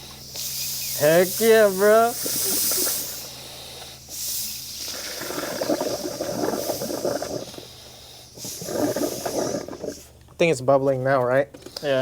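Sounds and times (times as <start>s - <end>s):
air hissing: 0.0s - 10.2s
coolant bubbling in a hose: 0.0s - 10.2s.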